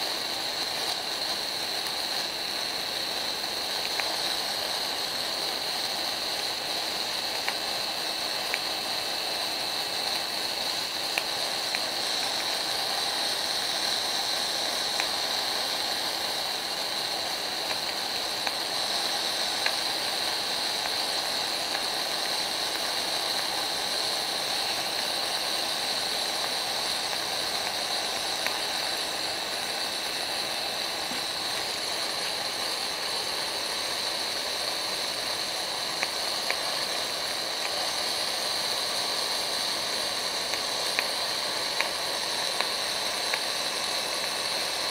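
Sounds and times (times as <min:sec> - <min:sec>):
hiss: 0:00.0 - 0:44.9.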